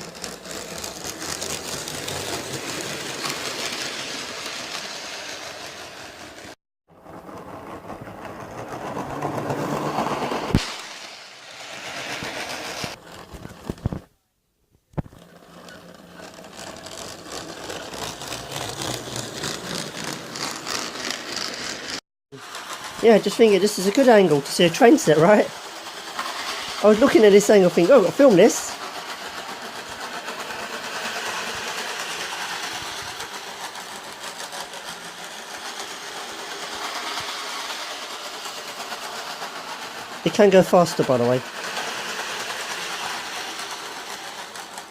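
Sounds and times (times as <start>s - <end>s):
model train running on track: 0.0s - 14.0s, 15.1s - 44.9s.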